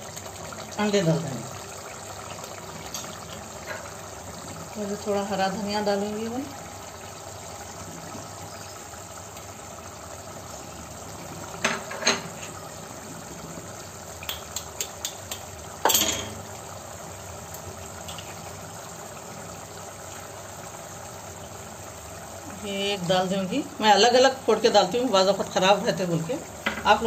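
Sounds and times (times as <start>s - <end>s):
sauce bubbling in a pot: 0.0s - 27.0s.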